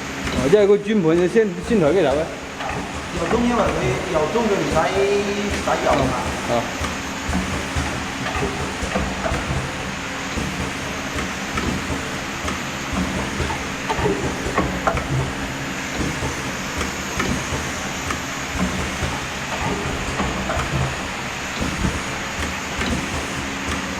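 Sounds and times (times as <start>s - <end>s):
machine clacks and knocks: 0.0s - 23.9s
printing machine running: 0.0s - 23.9s.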